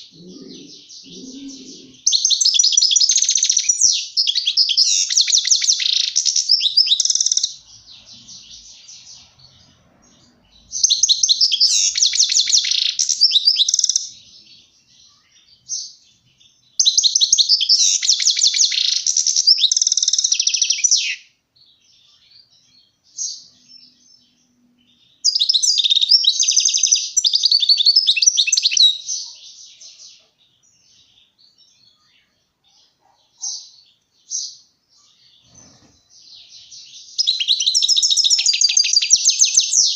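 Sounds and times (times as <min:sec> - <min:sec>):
finch twittering and trilling: 0:00.0 - 0:21.3, 0:22.0 - 0:39.9.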